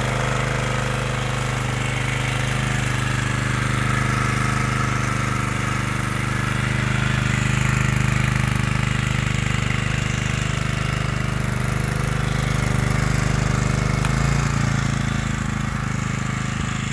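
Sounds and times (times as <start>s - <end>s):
generator engine running: 0.0s - 16.9s.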